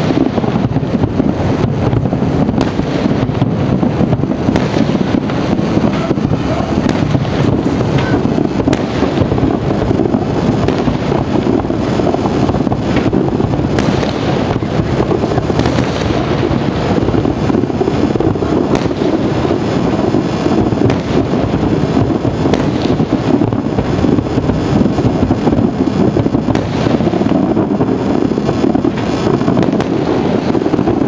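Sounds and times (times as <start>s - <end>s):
fireworks booming rumble: 0.0s - 31.0s
sharp firework cracks: 0.0s - 31.0s.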